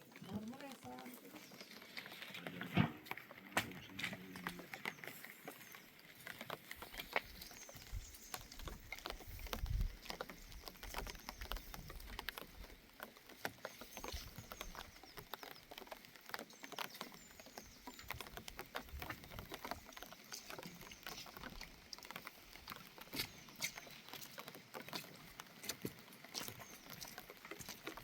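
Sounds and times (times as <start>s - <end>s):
light patter of ticks and taps: 0.0s - 28.0s.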